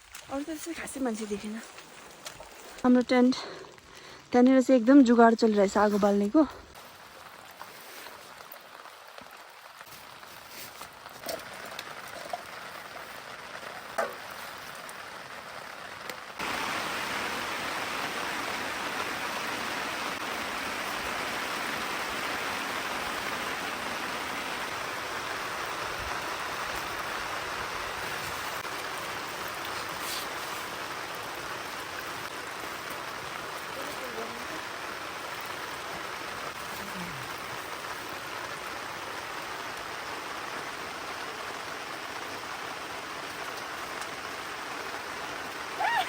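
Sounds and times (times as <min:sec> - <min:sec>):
rain taps: 0:00.0 - 0:46.0
steady rain: 0:00.0 - 0:46.0.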